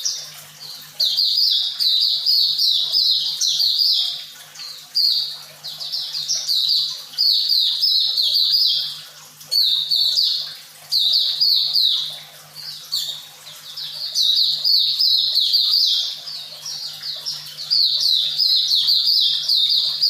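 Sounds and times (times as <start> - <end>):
bird twittering song: 0.0 - 20.0.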